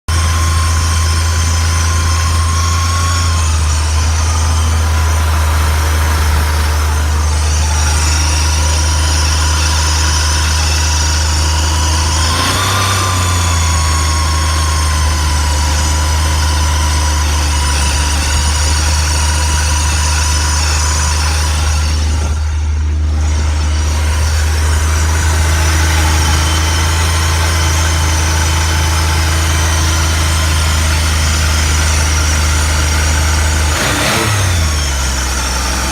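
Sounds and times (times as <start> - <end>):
high-pitched squeal: 0.1 - 35.9
snowmobile engine idling: 0.1 - 35.9.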